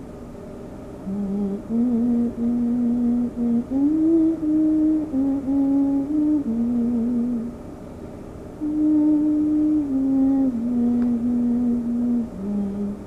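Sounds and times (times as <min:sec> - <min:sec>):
person humming: 0:01.0 - 0:07.5, 0:08.6 - 0:13.0.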